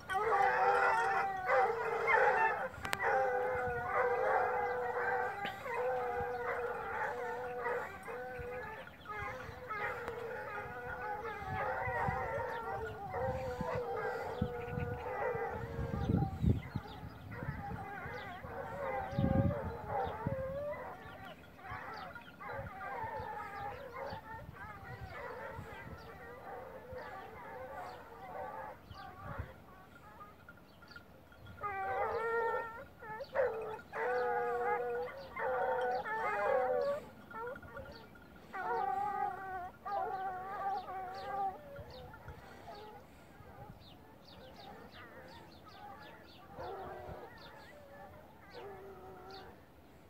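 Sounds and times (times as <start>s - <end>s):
hounds baying: 0.0s - 50.0s.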